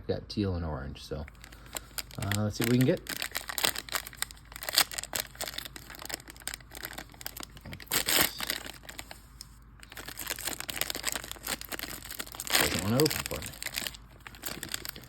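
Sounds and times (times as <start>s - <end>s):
plastic wrapper crinkling: 1.3s - 15.0s.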